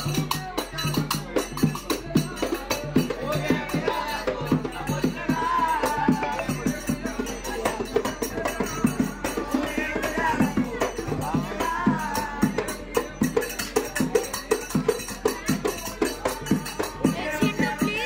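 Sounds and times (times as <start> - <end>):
barrel drum beating: 0.0 - 18.0
jingling percussion: 0.0 - 18.0.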